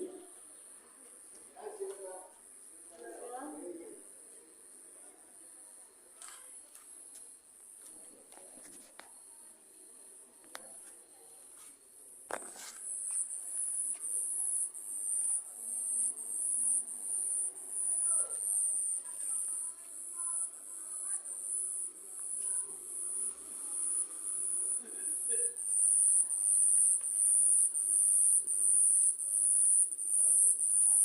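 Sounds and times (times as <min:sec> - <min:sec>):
crickets chirping: 0:02.1 - 0:31.0.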